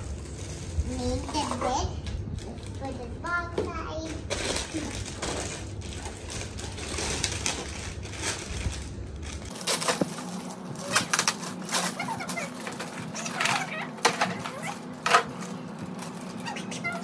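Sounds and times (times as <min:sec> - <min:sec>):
plastic bag crinkling: 0:00.0 - 0:03.2, 0:04.0 - 0:17.0.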